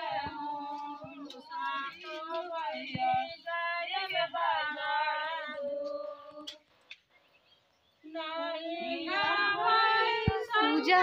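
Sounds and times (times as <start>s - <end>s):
women singing: 0.0s - 6.6s, 8.0s - 11.0s.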